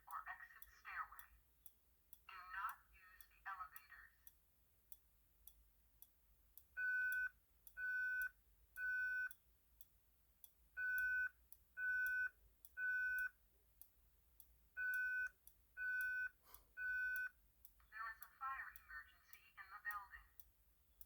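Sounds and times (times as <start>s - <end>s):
faint ticks: 0.0s - 21.0s.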